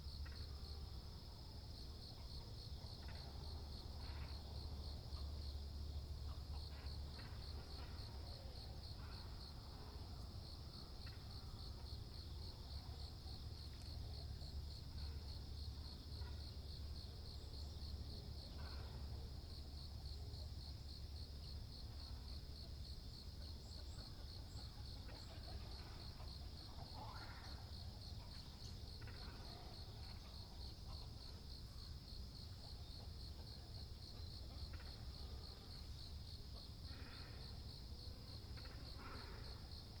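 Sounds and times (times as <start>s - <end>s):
insect trill: 0.0s - 40.0s.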